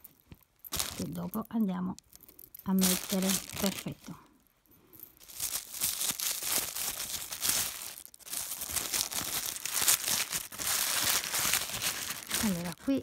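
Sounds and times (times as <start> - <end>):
plastic bag crinkling: 0.0 - 4.3, 5.2 - 13.0.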